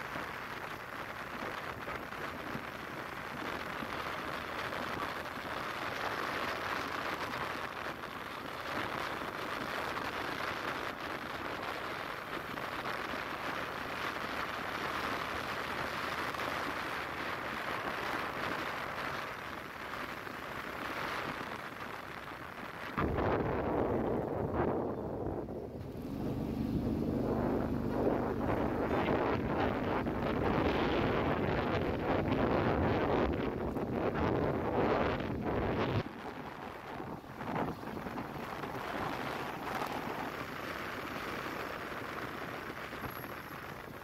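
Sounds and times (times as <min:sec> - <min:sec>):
wind and road noise: 0:00.0 - 0:44.0
wind buffeting microphone: 0:00.0 - 0:44.0.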